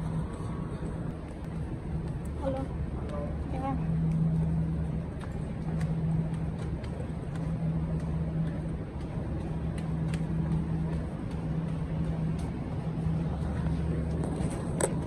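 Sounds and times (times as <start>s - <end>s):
droning tone: 0.0s - 15.0s
train low hum: 0.0s - 15.0s.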